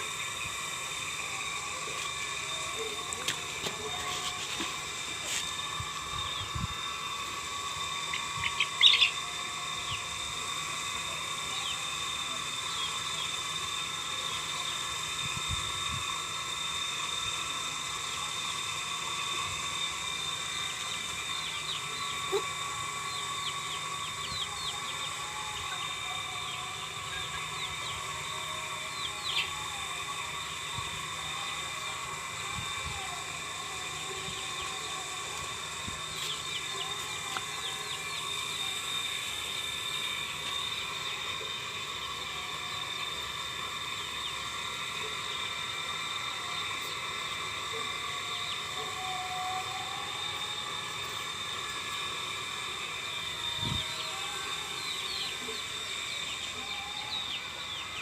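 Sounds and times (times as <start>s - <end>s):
high-pitched drone: 0.0s - 58.0s.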